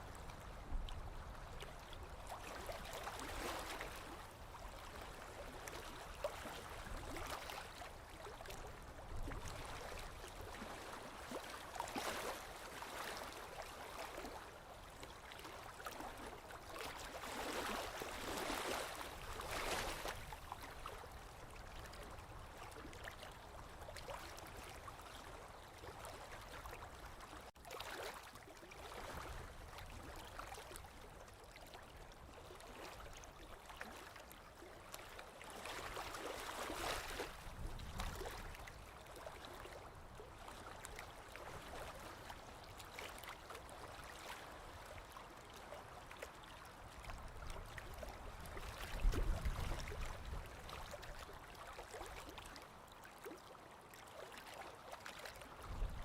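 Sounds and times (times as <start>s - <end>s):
lake waves lapping on shore: 0.0s - 56.0s.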